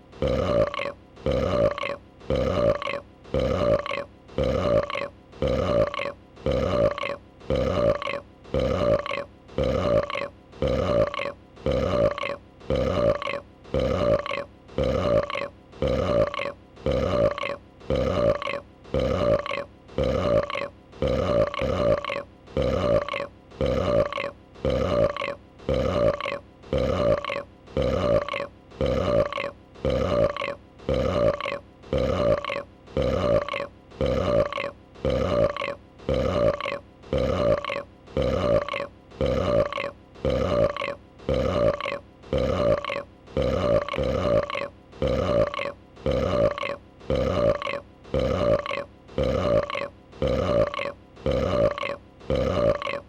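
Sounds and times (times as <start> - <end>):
short burps: 0.2 - 53.0.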